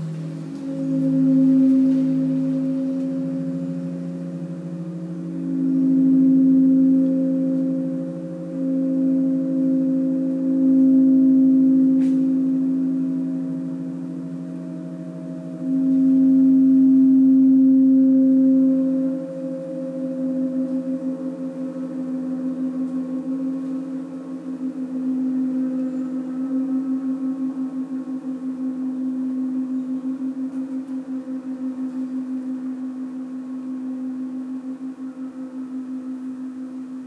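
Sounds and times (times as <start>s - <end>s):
gong pulsing low tones: 0.0s - 37.0s.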